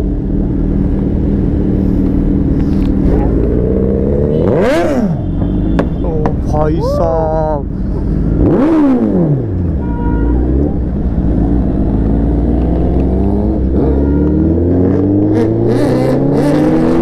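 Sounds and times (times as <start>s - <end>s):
motorcycle engine accelerating: 0.0s - 5.8s, 8.2s - 9.8s, 10.4s - 17.0s.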